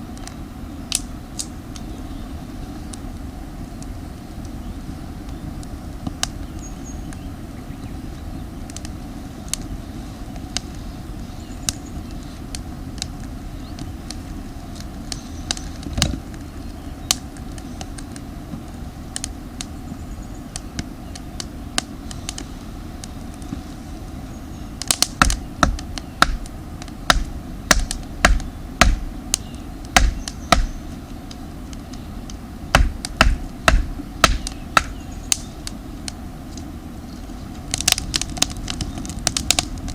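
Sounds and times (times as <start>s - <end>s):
firewood crackling and popping: 0.0s - 39.9s
steady low rumble: 0.0s - 39.9s.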